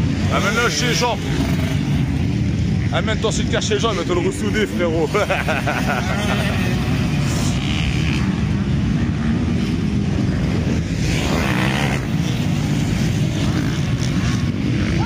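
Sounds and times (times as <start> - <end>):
motocross bike engines racing: 0.0 - 15.0.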